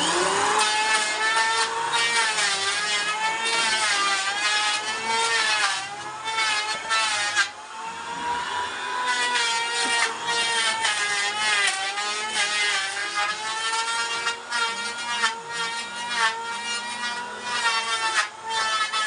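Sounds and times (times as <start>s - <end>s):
power tool whining on wood: 0.0s - 19.0s.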